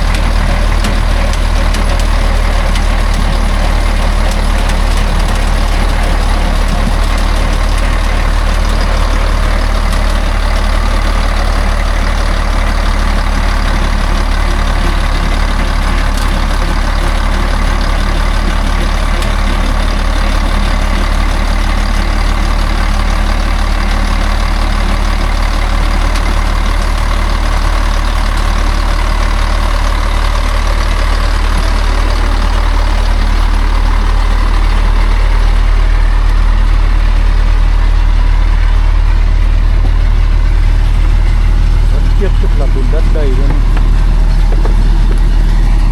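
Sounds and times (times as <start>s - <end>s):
heavy truck engine droning: 0.0s - 45.9s.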